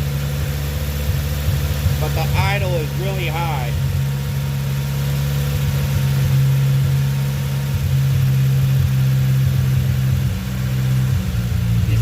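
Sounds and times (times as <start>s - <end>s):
car engine idling high: 0.0s - 12.0s.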